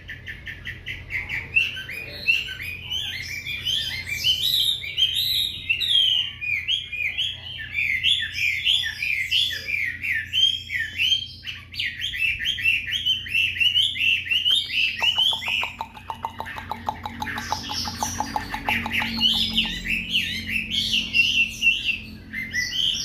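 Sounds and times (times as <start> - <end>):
bird singing slurred whistles: 1.2 - 23.0.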